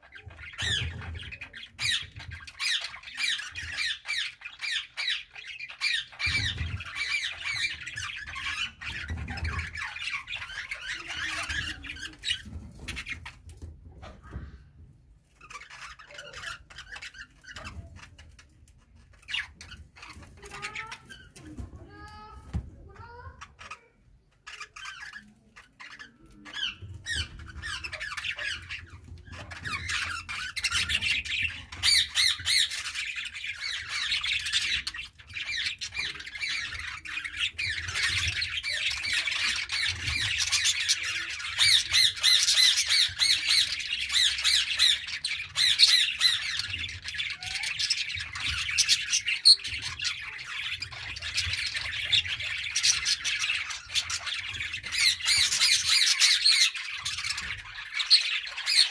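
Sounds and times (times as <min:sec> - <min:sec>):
budgerigars chattering: 0:00.1 - 0:13.2, 0:24.5 - 0:58.9.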